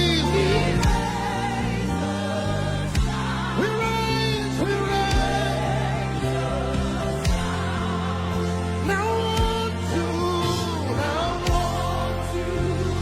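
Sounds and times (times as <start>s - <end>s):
choir singing gospel music: 0.0s - 13.0s.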